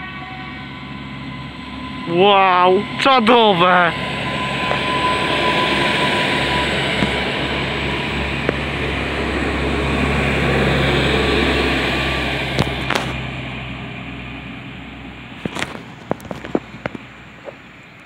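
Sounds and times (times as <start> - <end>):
train engine drone: 0.0 - 18.0
wheels rumbling on rails: 0.0 - 18.0.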